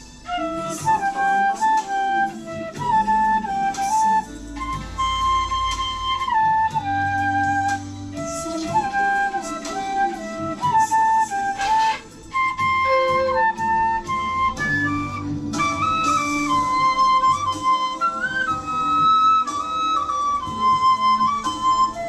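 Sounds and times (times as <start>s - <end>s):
backing track music: 0.0s - 22.0s
bamboo flute melody: 0.0s - 22.0s.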